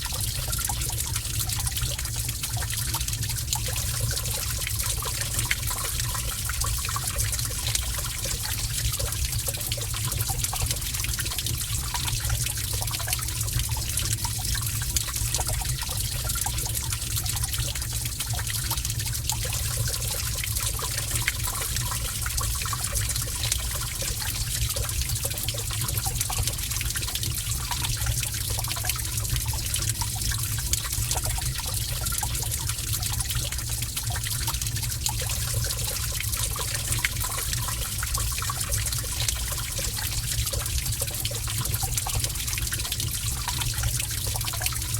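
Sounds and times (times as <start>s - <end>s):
water trickling in cave: 0.0s - 44.9s.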